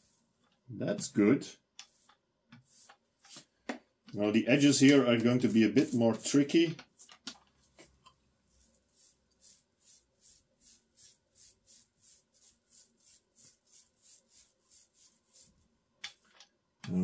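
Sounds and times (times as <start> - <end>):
paint roller swishing on wood: 0.0 - 1.2, 1.8 - 3.6, 4.2 - 16.5.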